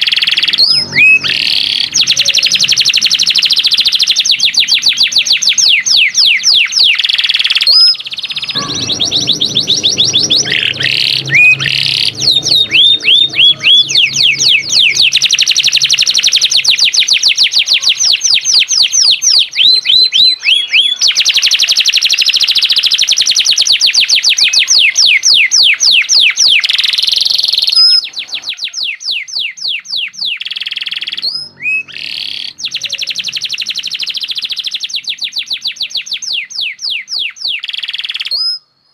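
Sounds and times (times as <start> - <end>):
canary singing trills: 0.0 - 38.8.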